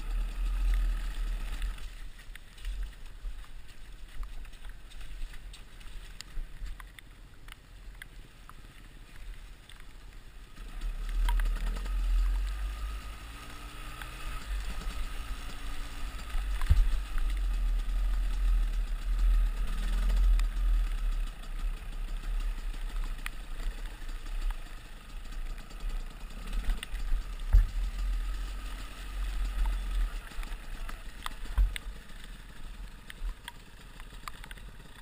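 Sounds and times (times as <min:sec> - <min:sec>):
dirt bike engine at low revs: 0:00.0 - 0:35.0.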